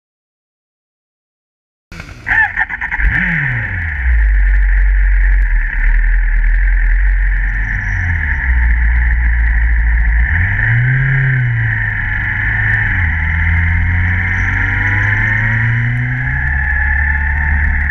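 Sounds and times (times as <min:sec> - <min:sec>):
motorcycle engine running: 0:01.9 - 0:17.9.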